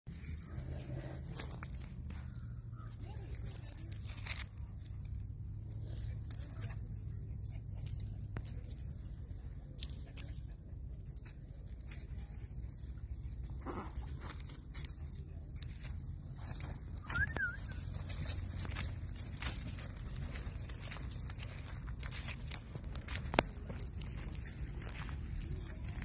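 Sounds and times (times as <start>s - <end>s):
crunching of dry leaves: 0.1s - 26.0s.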